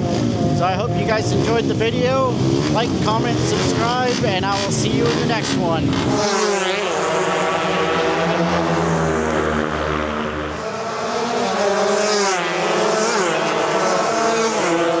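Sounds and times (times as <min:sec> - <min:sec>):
motorbike engines revving: 0:00.0 - 0:15.0.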